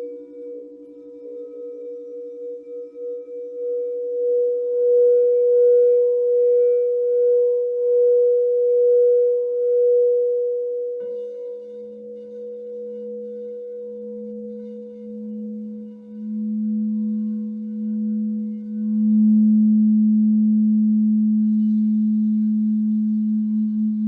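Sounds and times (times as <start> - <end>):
high singing bowl tone: 0.0 - 24.0
low singing bowl tone: 0.0 - 24.0.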